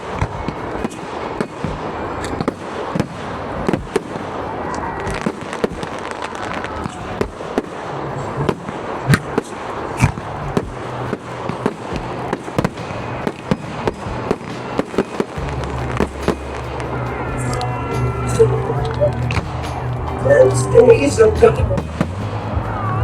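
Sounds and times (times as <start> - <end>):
fireworks bangs and cracks: 0.0 - 23.0
fireworks crackling hiss: 0.0 - 23.0.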